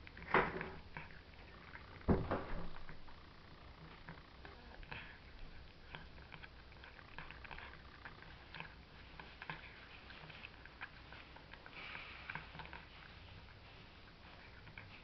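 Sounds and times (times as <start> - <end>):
cat chewing food: 0.0 - 15.0.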